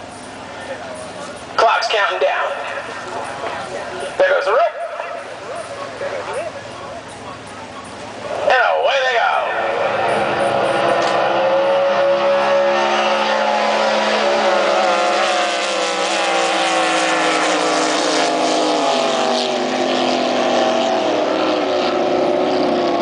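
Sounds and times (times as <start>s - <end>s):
boat engines at full throttle: 0.0s - 23.0s.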